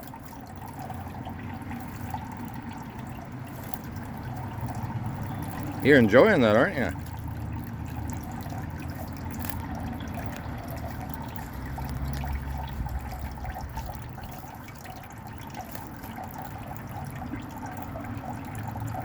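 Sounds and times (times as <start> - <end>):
water dripping: 0.0 - 19.0
water trickling in a fountain: 0.0 - 19.0.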